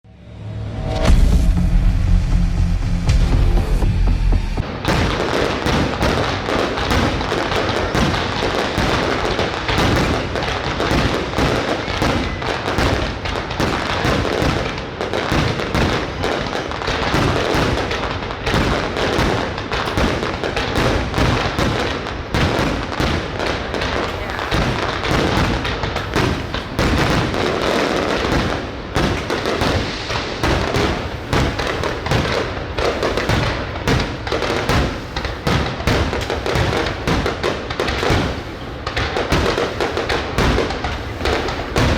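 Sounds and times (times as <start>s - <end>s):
fireworks bangs and crackles: 0.2s - 41.9s.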